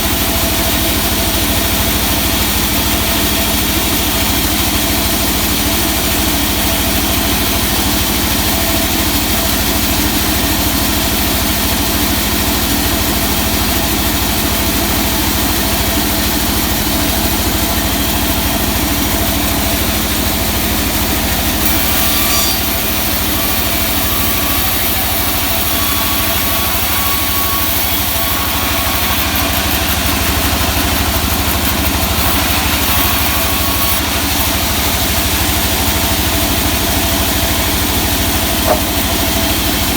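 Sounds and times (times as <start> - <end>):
engine running steadily: 0.0 - 22.0, 27.6 - 39.9.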